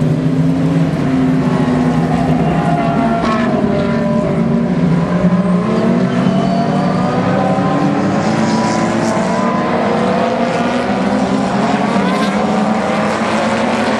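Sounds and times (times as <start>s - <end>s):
race car engines: 0.0s - 13.9s.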